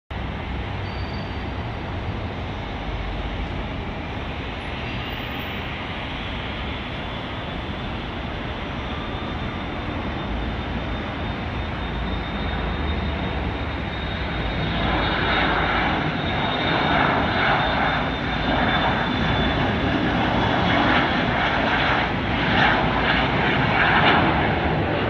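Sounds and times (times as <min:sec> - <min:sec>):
distant jet engine rush: 0:00.1 - 0:25.0.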